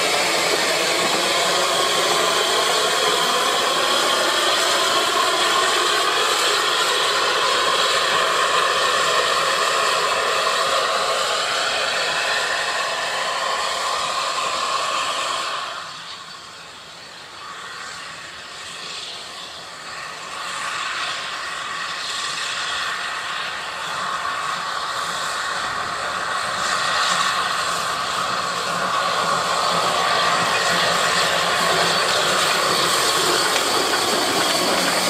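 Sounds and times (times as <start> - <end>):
steam train hissing and rumbling: 0.0 - 35.0.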